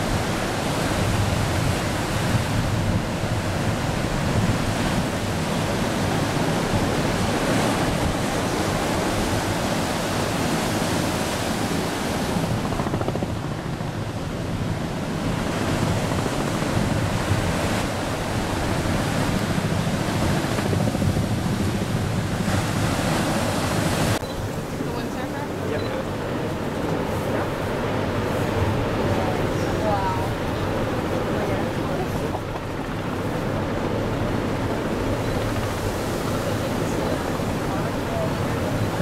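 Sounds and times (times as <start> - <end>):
ocean surf breaking: 0.0 - 39.0
wind on microphone: 0.0 - 39.0.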